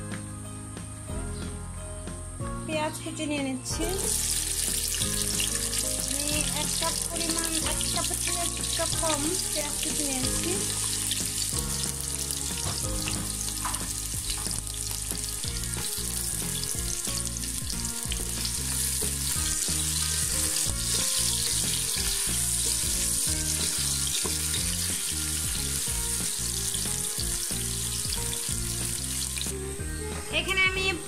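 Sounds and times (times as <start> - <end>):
onions sizzling in hot oil: 3.8 - 30.0.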